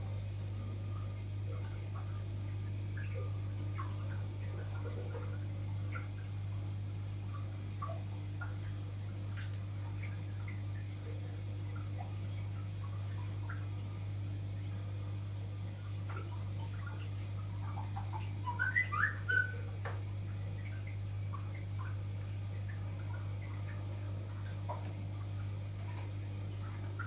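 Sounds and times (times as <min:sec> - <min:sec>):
aquarium equipment hum: 0:00.0 - 0:27.0.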